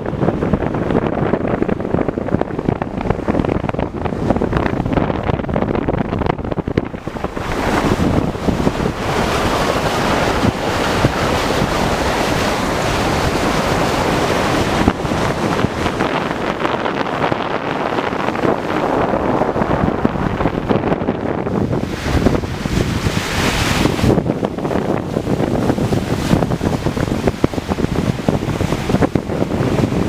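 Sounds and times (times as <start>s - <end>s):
sea water rushing: 0.0s - 30.0s
wind buffeting microphone: 0.0s - 30.0s.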